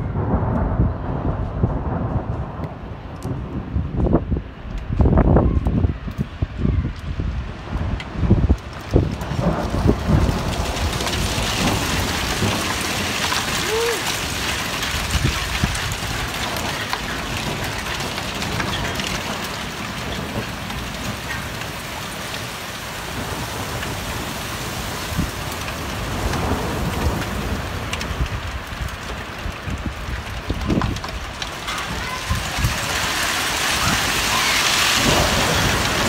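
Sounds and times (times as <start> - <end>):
heavy rain falling: 0.0 - 36.0
thunder rumbling: 0.0 - 36.0.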